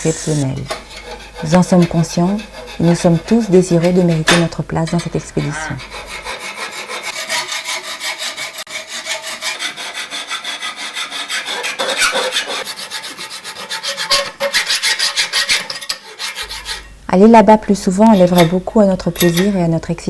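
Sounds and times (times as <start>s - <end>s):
hacksaw rasping on metal: 0.6s - 17.0s, 18.1s - 19.7s.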